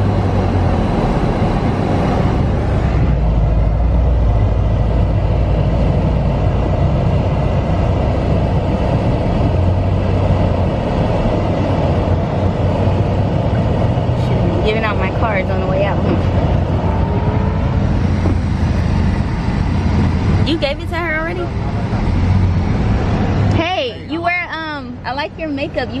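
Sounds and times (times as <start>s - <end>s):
car engine rumble: 0.0s - 26.0s.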